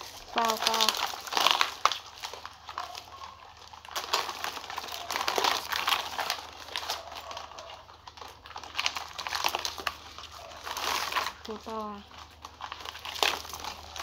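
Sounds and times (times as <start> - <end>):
crab shells clicking and scraping: 0.0 - 14.0
rustling: 0.0 - 14.0.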